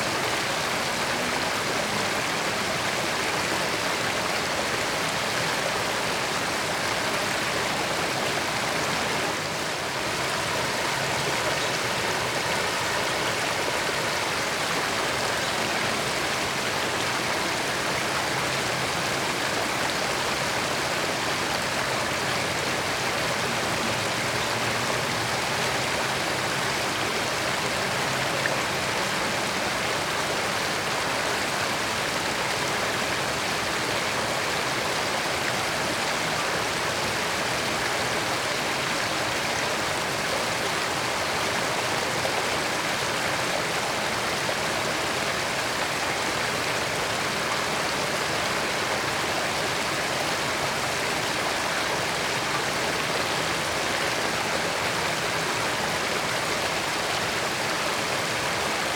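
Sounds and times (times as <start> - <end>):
creek water running: 0.0 - 58.9.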